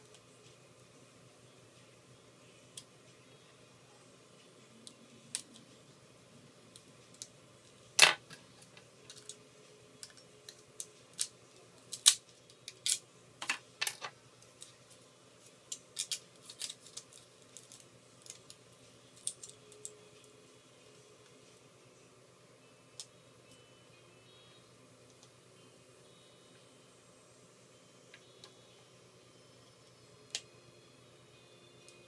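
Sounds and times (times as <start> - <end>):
quiet room hum: 0.0 - 32.0.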